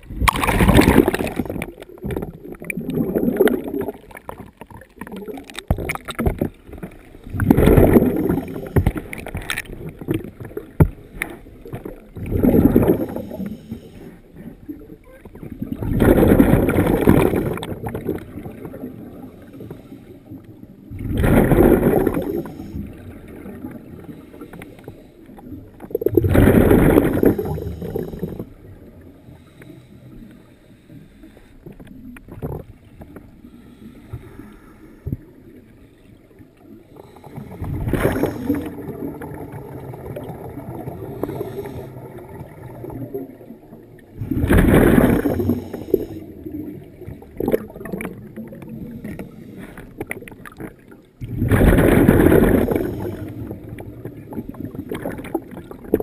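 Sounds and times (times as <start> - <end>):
exhaled bubbles underwater: 0.0 - 30.5, 31.6 - 56.0.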